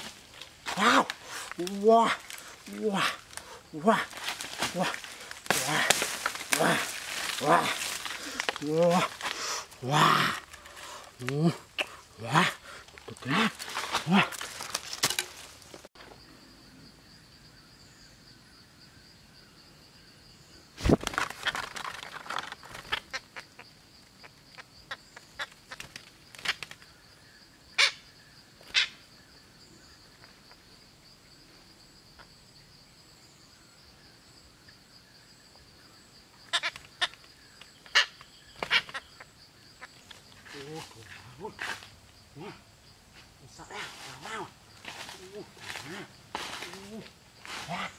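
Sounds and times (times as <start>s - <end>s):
high insect drone: 0.0s - 47.9s.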